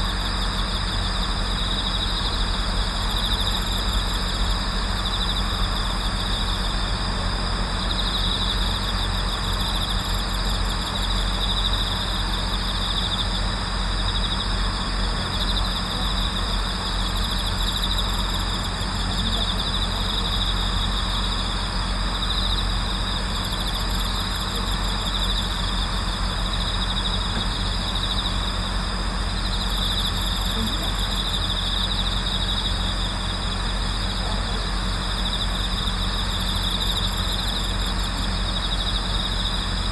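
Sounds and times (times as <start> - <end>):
crickets trilling and chirping: 0.0 - 39.9
distant traffic rumble: 0.0 - 39.9.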